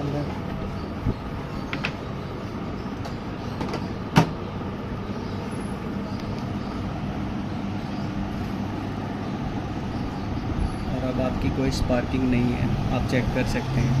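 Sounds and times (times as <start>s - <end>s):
microwave oven humming: 0.0s - 13.9s.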